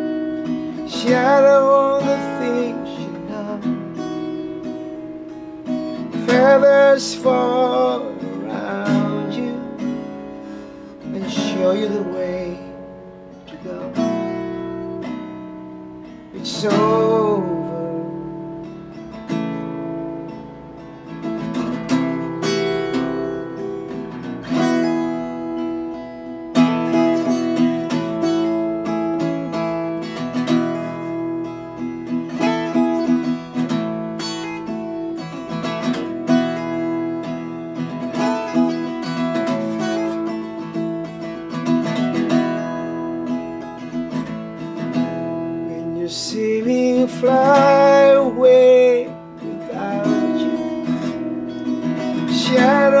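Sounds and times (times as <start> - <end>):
acoustic guitar strumming chords: 0.0 - 53.0.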